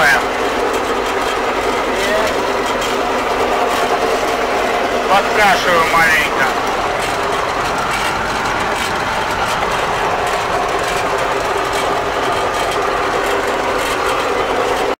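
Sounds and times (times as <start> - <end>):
hay mower engine drone: 0.0 - 15.0
machinery whining tones: 0.0 - 15.0.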